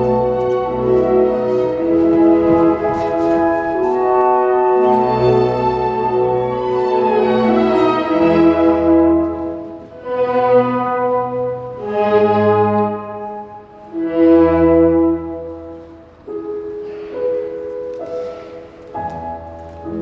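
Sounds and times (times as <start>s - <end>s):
orchestral music sustained chords: 0.0s - 20.0s.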